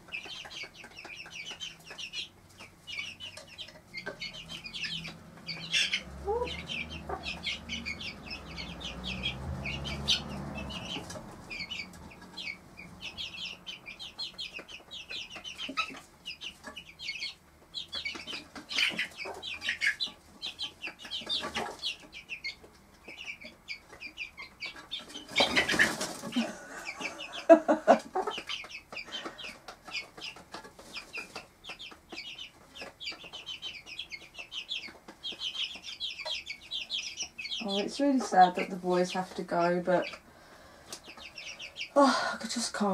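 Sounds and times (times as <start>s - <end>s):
chicks peeping: 0.0s - 42.9s
hen clucking: 0.0s - 42.9s.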